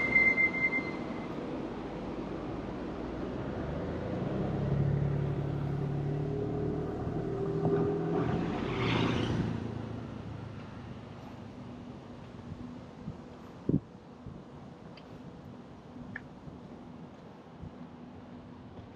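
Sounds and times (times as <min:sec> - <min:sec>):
vehicle engine hum: 0:00.0 - 0:18.9.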